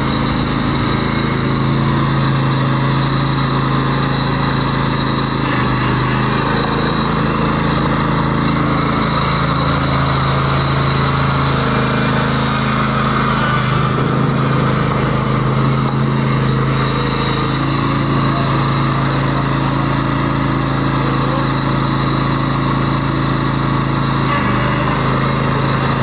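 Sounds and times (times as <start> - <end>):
lawn tractor engine running: 0.0 - 26.0.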